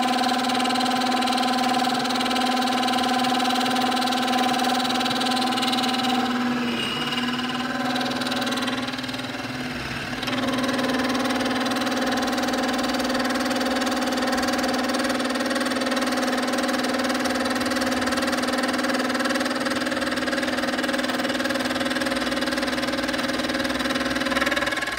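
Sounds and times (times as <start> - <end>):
milling machine whine: 0.0 - 24.9.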